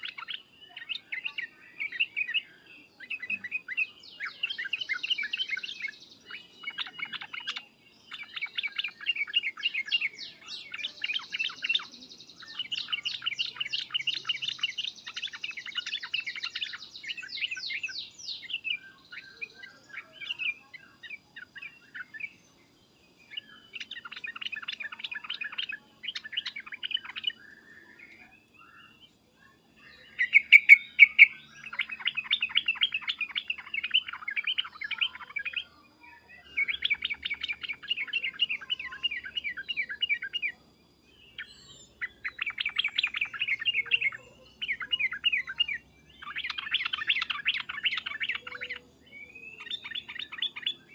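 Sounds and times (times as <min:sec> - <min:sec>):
bulbul chattering calls: 0:00.0 - 0:40.6, 0:41.2 - 0:50.9.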